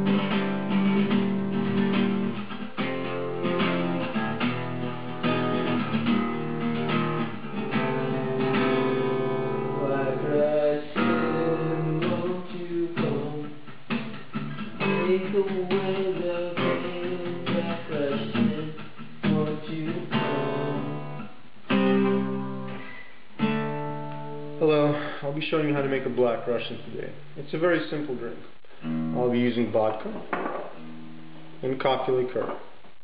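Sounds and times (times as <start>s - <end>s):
acoustic guitar strumming: 0.0s - 24.9s, 28.8s - 29.4s, 30.3s - 31.6s.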